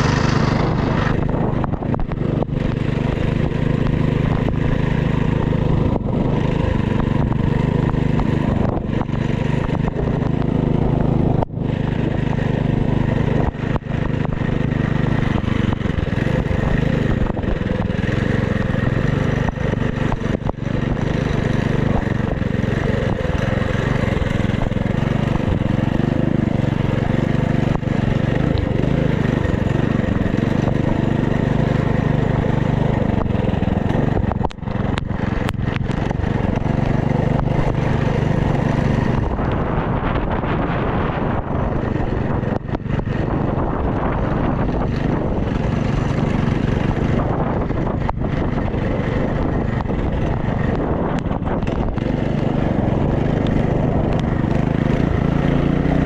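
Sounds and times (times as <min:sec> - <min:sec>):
minibike engine running: 0:00.0 - 0:56.0.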